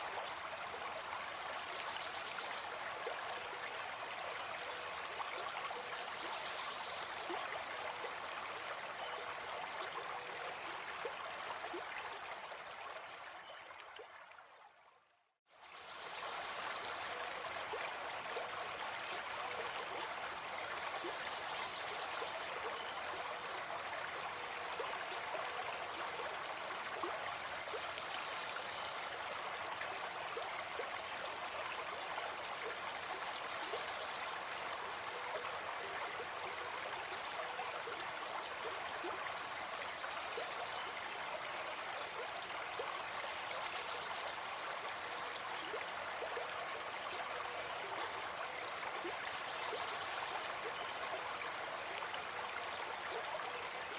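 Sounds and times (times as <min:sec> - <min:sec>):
stream water babbling: 0:00.0 - 0:53.9.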